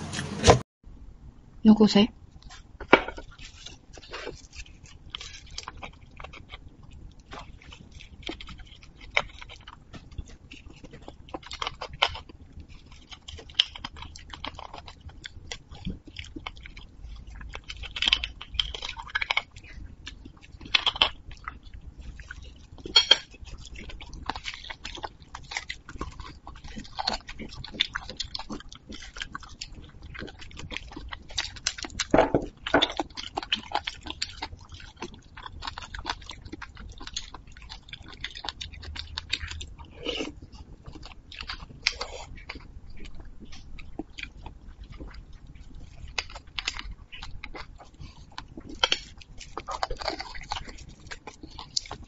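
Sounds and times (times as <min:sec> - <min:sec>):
chewing and biting bone marrow: 0:02.4 - 0:52.0.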